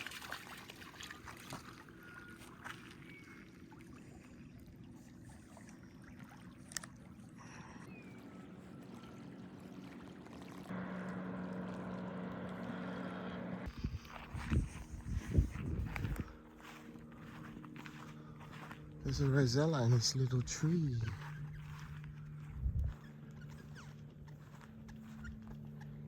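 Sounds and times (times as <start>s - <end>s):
boat engine droning: 0.7s - 26.0s.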